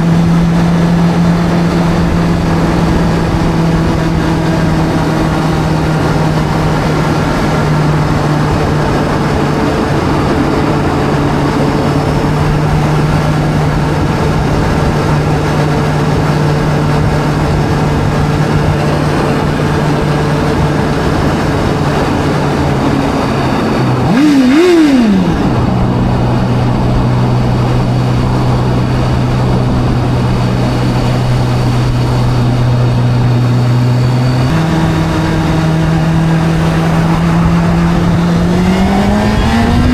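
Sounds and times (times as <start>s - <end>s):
video game motorbike engine: 0.0s - 39.9s.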